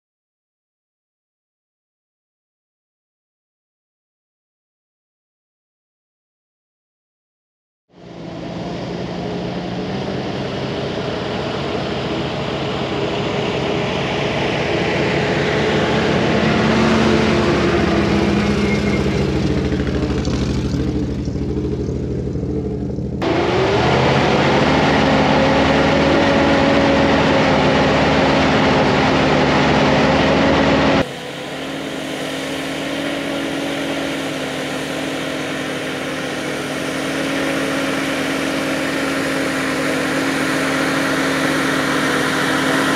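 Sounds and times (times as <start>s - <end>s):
truck engine revving: 8.0s - 42.9s.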